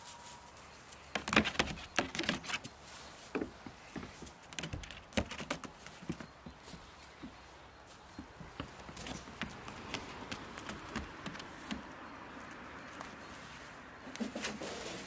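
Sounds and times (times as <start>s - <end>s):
hooves clattering on wooden roof: 1.1s - 13.2s.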